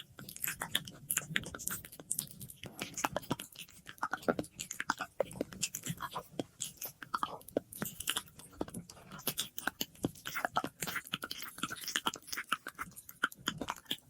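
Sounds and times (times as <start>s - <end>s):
wet lip and tongue clicks: 0.0s - 14.0s.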